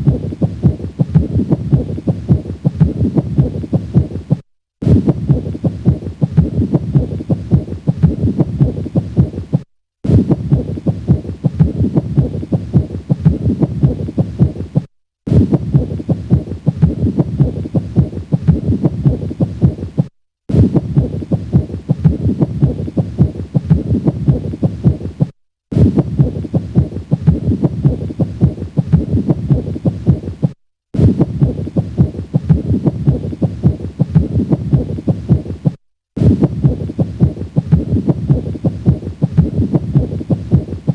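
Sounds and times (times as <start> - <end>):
heart sounds with friction rub: 0.0 - 40.9.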